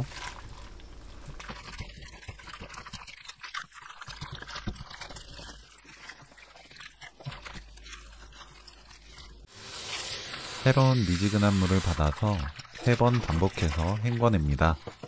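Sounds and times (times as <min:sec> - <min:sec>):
wet squelches and splashes: 0:00.0 - 0:15.0.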